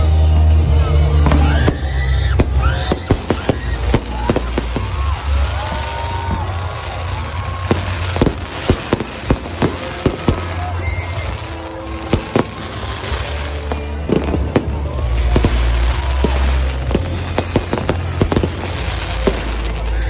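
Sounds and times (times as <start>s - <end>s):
fireworks bangs and cracks: 1.2s - 20.0s.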